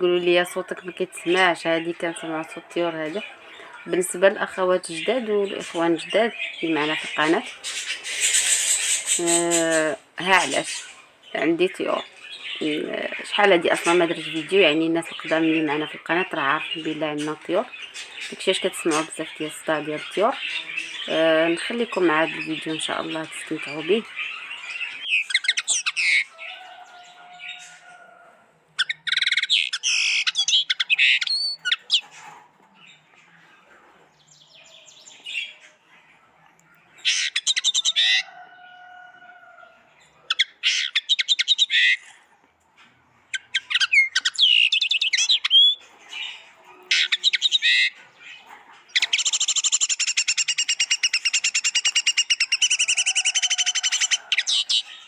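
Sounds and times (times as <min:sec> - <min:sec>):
pet birds chirping and chattering: 0:00.0 - 0:55.0.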